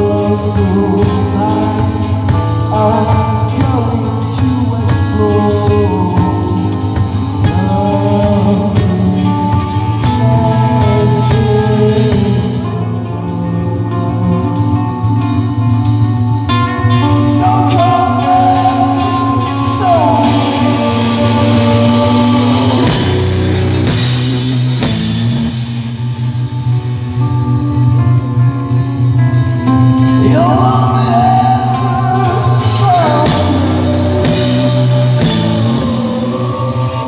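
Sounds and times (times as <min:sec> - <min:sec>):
electric guitar sliding notes: 0:00.0 - 0:37.0
live rock band playing: 0:00.0 - 0:37.0.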